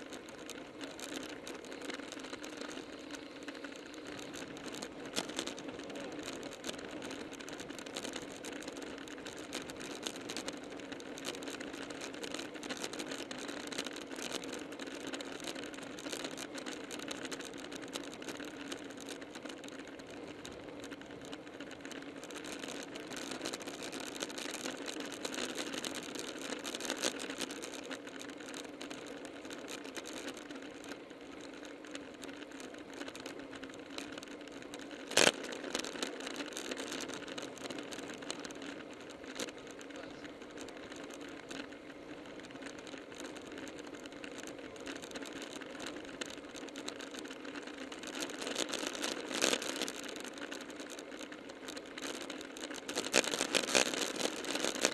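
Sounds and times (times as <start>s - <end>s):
bicycle drivetrains whirring: 0.0s - 54.9s
bike tyres on asphalt: 0.0s - 54.9s
rattle: 0.0s - 54.9s.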